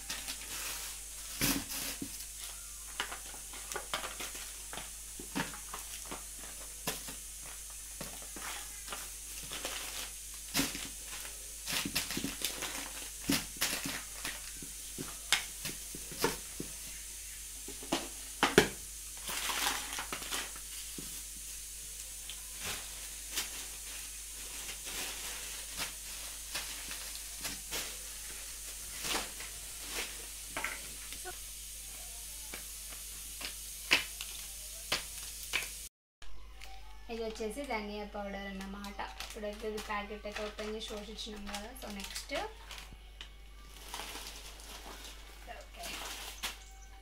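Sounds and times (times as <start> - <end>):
plastic bags rustling: 0.0 - 31.4, 36.6 - 47.0.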